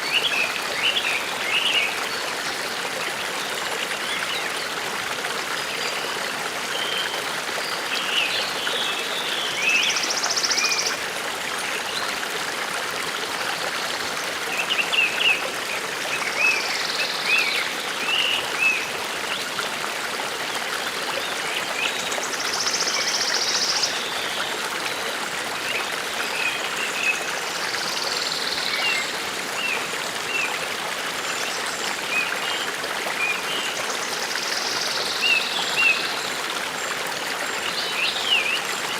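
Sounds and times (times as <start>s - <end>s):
brook running: 0.0s - 38.9s.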